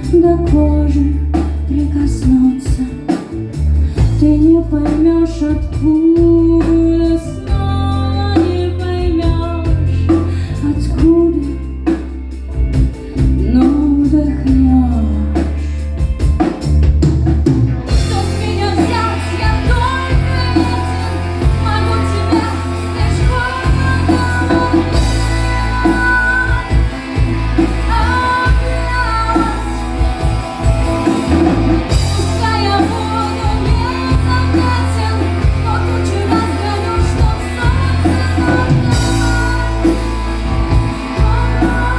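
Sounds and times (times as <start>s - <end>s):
person singing: 0.0s - 11.9s, 17.9s - 41.9s
bass: 0.0s - 41.9s
drums and cymbals: 0.0s - 41.9s.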